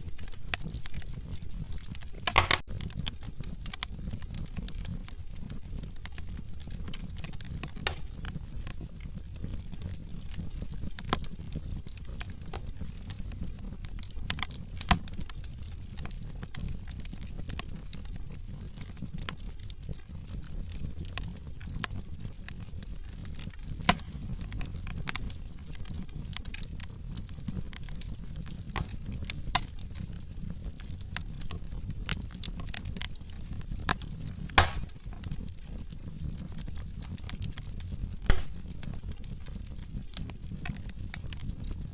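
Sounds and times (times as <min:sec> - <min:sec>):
low rumble of burning logs: 0:00.0 - 0:41.9
wood fire crackling and popping: 0:00.0 - 0:41.9.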